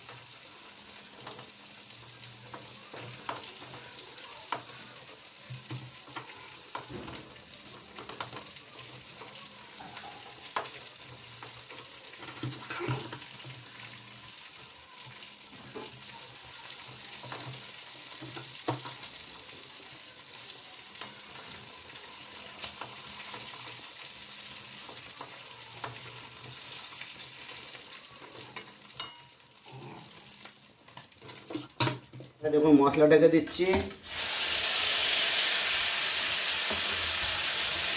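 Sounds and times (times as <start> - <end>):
hot oil sizzling in a pan: 0.0 - 37.9.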